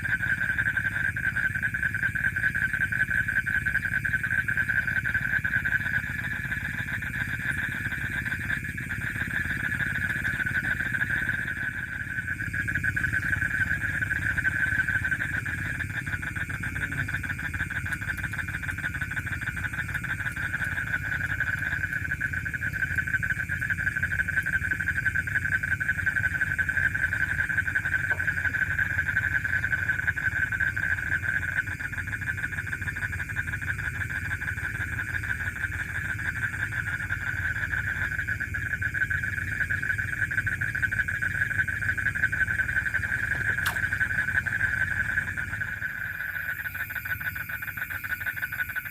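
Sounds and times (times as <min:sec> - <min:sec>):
steady low rumble: 0:00.0 - 0:48.2
frogs calling in chorus: 0:00.0 - 0:48.9.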